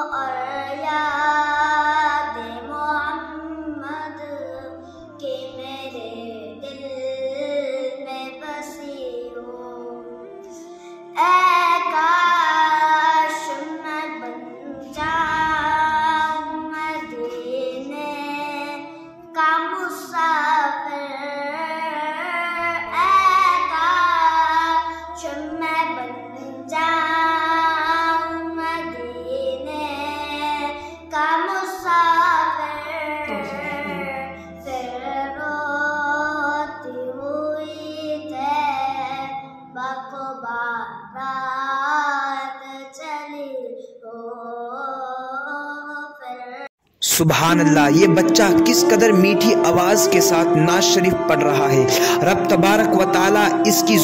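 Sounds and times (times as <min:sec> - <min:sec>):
boy singing devotional poem: 0:00.0 - 0:54.0.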